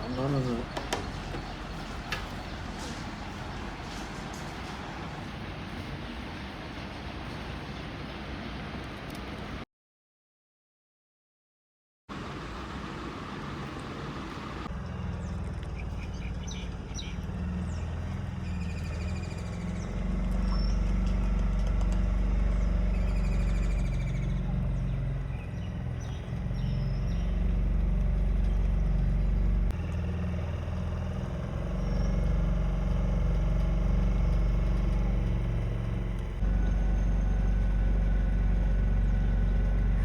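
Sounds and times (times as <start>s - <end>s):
boat engine rumbling: 0.0s - 7.3s, 12.1s - 40.0s
birds chirping: 0.0s - 8.6s, 12.9s - 37.6s.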